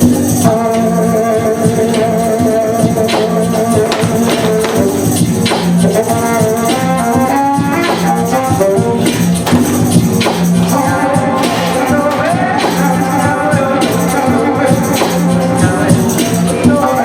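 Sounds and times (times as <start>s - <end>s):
live band music: 0.0s - 16.4s.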